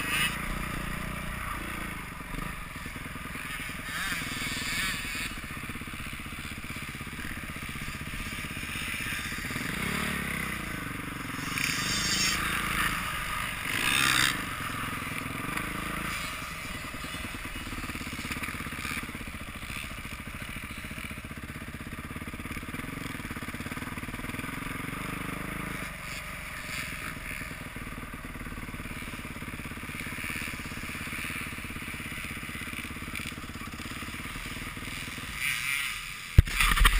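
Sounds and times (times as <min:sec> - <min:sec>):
dirt bike engine: 0:00.0 - 0:36.9.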